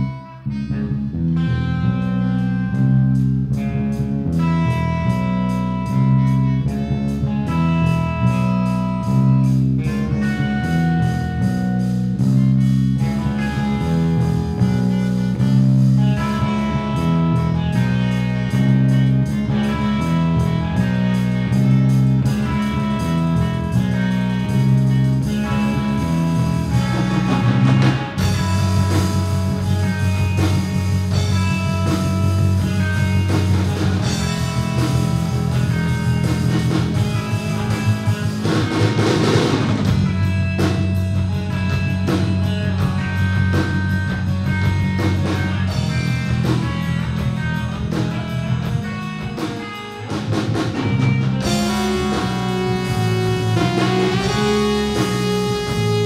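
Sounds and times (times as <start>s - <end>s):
bass guitar line: 0.0s - 56.0s
drum kit: 0.0s - 56.0s
electric guitar: 0.0s - 56.0s.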